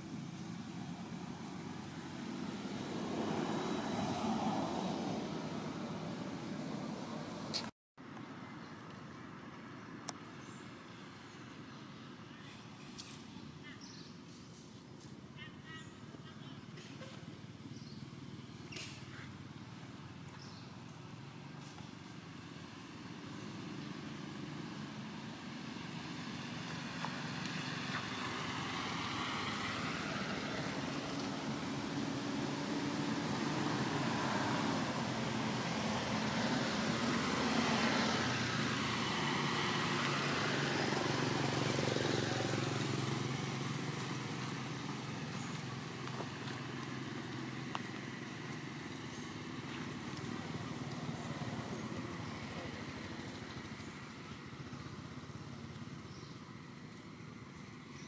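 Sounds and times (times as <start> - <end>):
passing vehicle engine: 0.0 - 7.7, 16.1 - 58.0.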